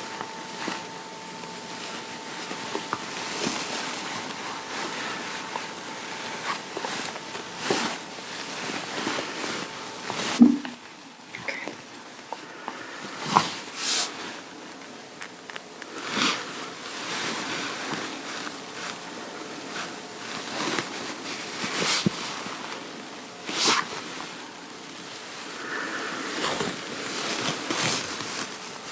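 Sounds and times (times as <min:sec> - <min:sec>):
clothing fabric rustling: 0:00.0 - 0:11.0, 0:16.0 - 0:28.9.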